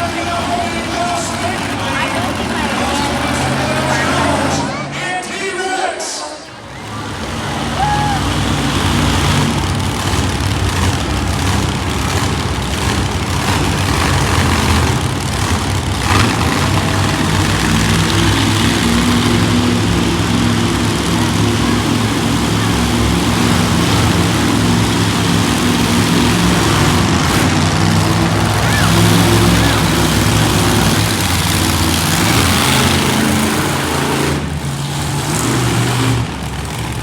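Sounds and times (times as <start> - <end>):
monster truck engine running: 0.0 - 5.6, 6.5 - 37.0
constant noise: 0.0 - 37.0.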